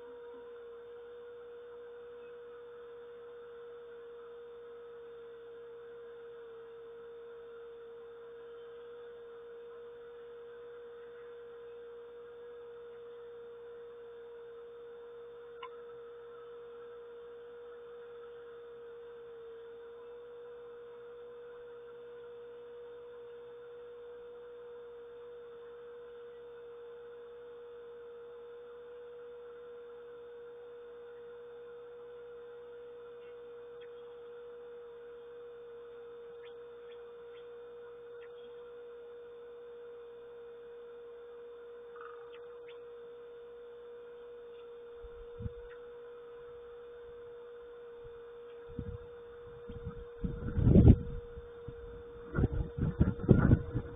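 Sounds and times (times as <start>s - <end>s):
steady single-pitched hum: 0.0s - 53.9s.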